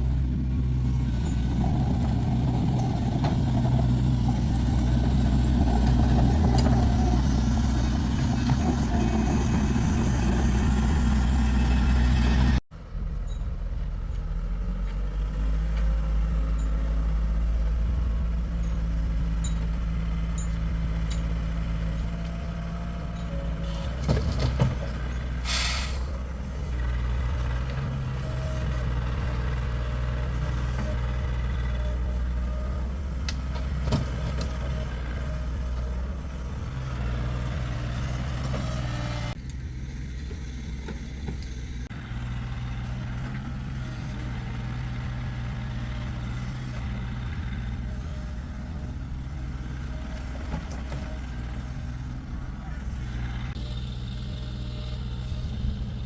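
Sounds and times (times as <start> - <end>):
vehicle engine droning: 0.0 - 56.0.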